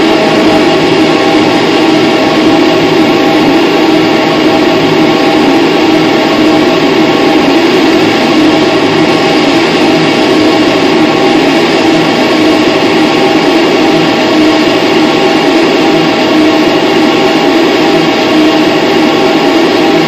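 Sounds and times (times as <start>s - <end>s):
loud drone music: 0.0s - 20.0s.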